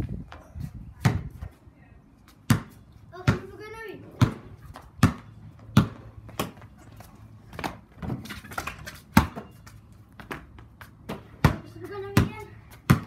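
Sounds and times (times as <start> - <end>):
basketball bouncing on stone tiles: 1.0 - 1.5, 2.3 - 13.0.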